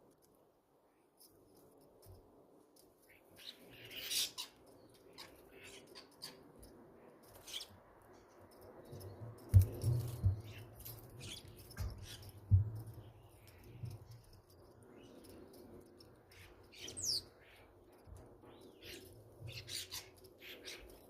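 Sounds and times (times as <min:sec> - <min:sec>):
birds chirping: 0:03.0 - 0:21.0.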